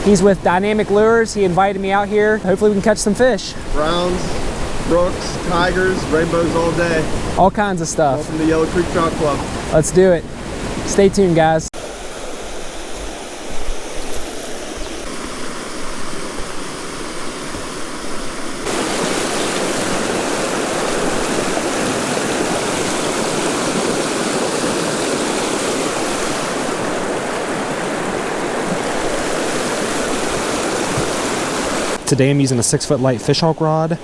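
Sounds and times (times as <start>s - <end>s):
creek water rushing over rocks: 0.0s - 7.5s, 11.8s - 34.0s.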